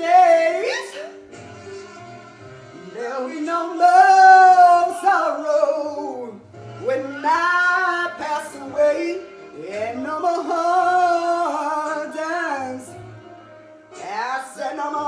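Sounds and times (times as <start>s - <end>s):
recorded music in room: 0.0s - 15.0s.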